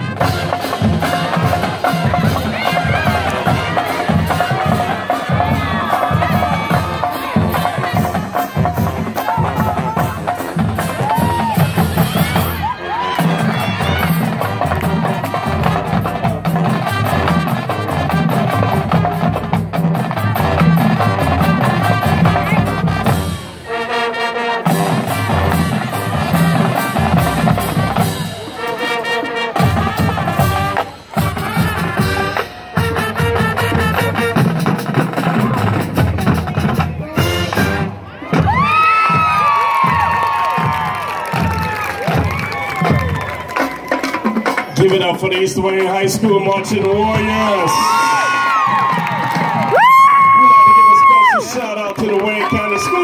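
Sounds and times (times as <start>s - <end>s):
drumline beat: 0.0s - 53.0s
marching band brass: 0.0s - 53.0s.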